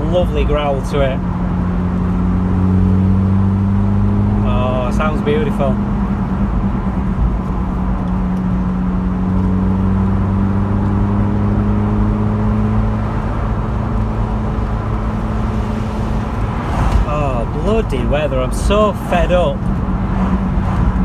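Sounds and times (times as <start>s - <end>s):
car engine growling at cruise: 0.0s - 21.0s.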